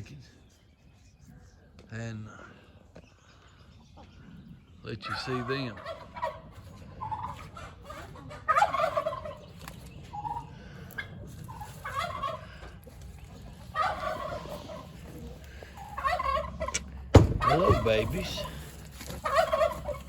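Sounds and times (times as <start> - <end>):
turkey gobbling: 3.8 - 20.0.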